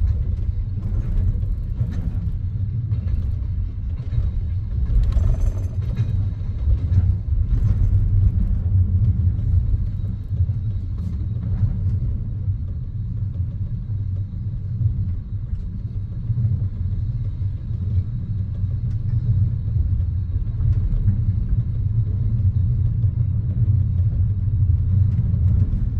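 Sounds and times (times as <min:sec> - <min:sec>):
train rumble inside carriage: 0:00.0 - 0:25.9.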